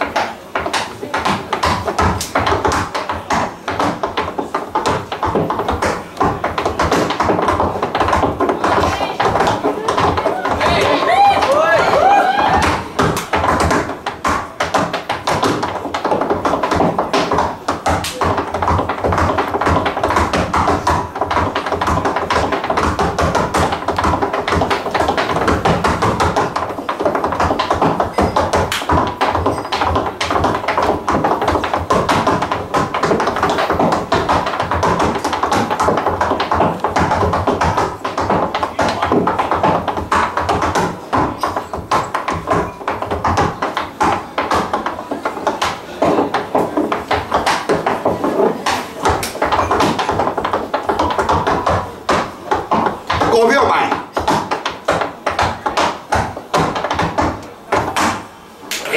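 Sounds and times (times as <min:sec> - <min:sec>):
tap shoes on wooden floor: 0:00.0 - 0:58.9.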